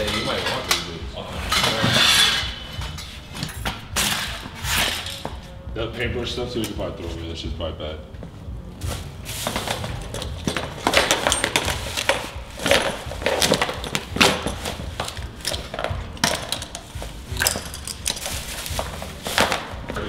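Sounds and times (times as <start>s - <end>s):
hard objects clattering and knocking: 0.0s - 5.6s, 9.3s - 20.0s.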